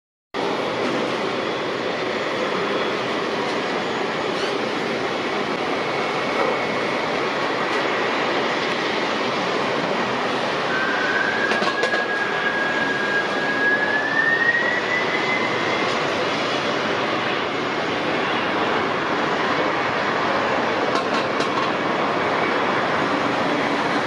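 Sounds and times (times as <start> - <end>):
jet engines rumbling: 0.4 - 24.0
jet engines spooling up: 0.4 - 24.0.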